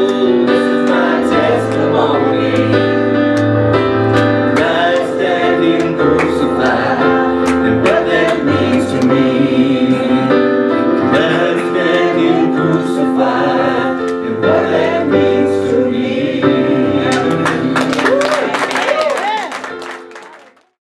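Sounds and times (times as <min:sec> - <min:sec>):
person singing gospel: 0:00.0 - 0:03.4, 0:04.4 - 0:19.0
sustained keyboard chords: 0:00.0 - 0:20.6.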